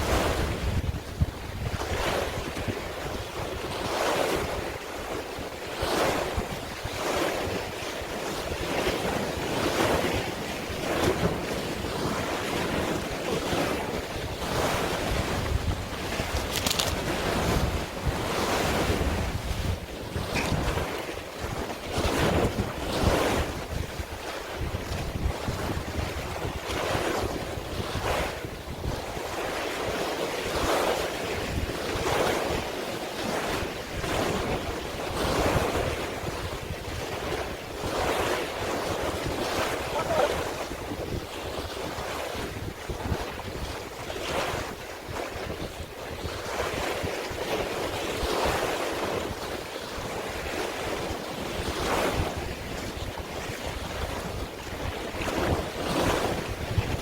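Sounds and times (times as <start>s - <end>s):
sea waves washing and splashing: 0.0s - 57.0s
wind buffeting microphone: 0.0s - 57.0s.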